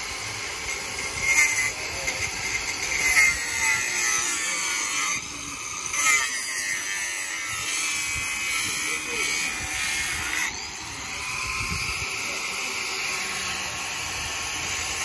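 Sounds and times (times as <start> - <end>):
lathe cutting hiss: 0.0 - 15.0
metal screeching: 0.6 - 13.8.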